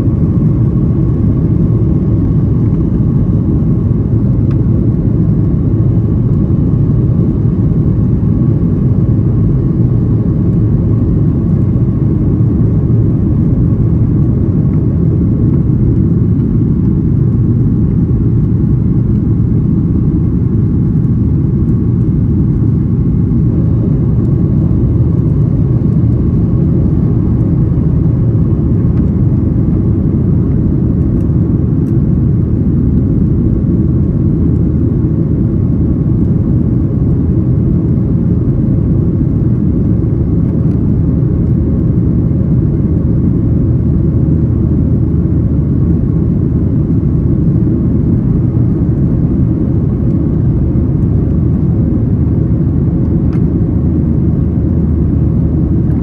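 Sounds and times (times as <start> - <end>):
aircraft cabin engine rumble: 0.0 - 56.0
faint steady hum: 0.0 - 56.0.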